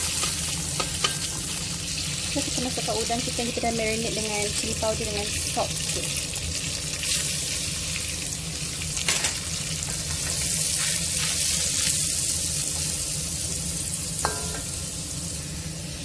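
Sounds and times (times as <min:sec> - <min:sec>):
prawns sizzling in butter: 0:00.0 - 0:16.0.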